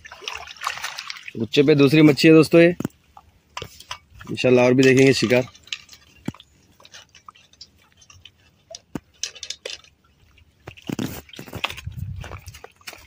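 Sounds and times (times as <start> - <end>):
fishing net clicks and rustles: 0.0 - 13.0.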